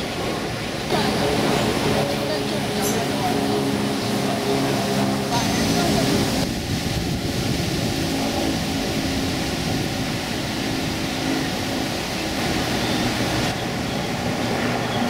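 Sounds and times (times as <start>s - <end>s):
street traffic with engine drone: 0.0s - 15.0s.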